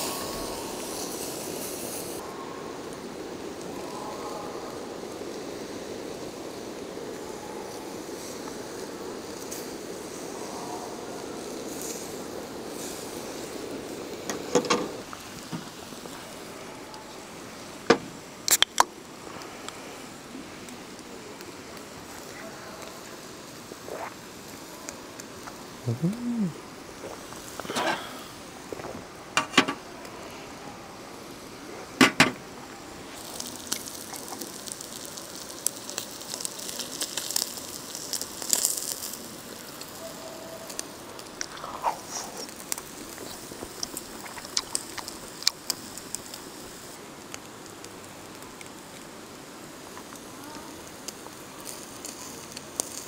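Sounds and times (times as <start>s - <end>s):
food sizzling and crackling: 0.0s - 4.0s, 4.7s - 10.5s, 11.2s - 53.0s.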